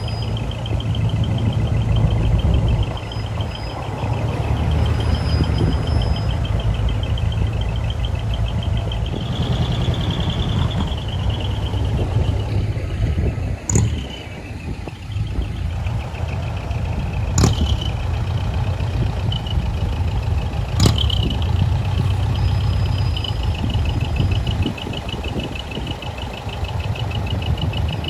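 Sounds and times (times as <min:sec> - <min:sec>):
diesel truck engine: 0:00.0 - 0:28.0.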